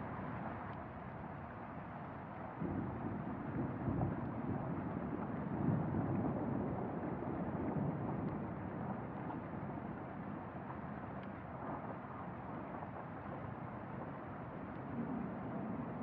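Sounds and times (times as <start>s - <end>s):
steady low rumbling noise: 2.5s - 16.0s.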